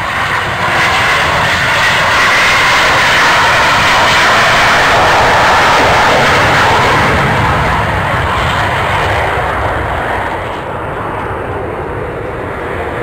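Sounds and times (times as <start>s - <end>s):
jet noise: 0.0s - 13.0s.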